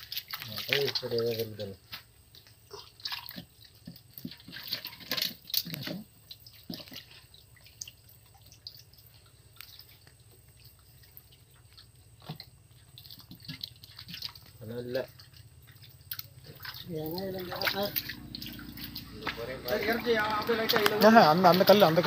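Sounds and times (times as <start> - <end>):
water splashes and drips: 0.0 - 22.0.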